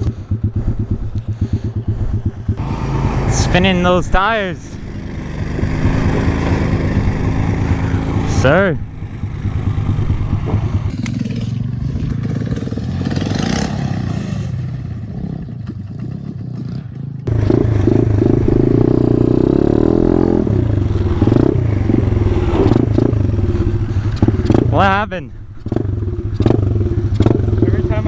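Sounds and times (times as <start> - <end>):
off-road bike engine revving: 0.0 - 28.0.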